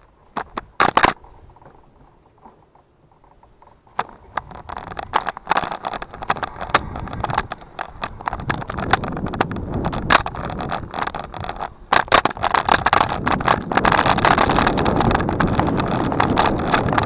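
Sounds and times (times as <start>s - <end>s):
bicycle rattling over ground: 0.0s - 17.0s
sharp clicks and knocks: 0.0s - 17.0s.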